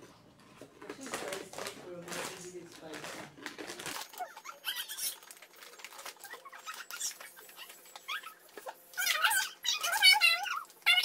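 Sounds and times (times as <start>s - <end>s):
plastic bags crinkling: 0.4s - 11.0s.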